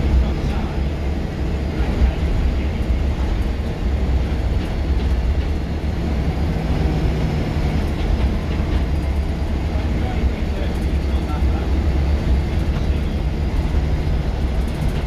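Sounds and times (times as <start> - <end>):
bus diesel engine rumble: 0.0 - 15.0
road noise: 0.0 - 15.0.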